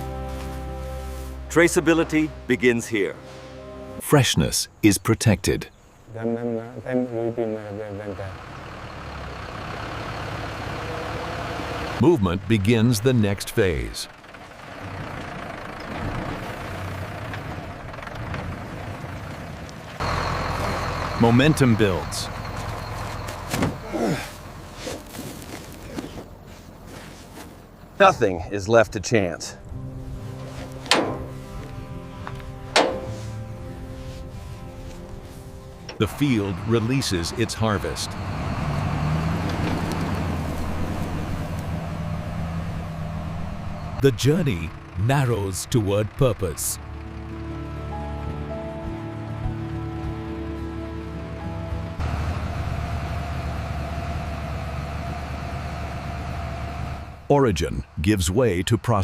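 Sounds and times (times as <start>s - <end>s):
engine running steadily: 7.8s - 28.2s, 29.6s - 57.3s.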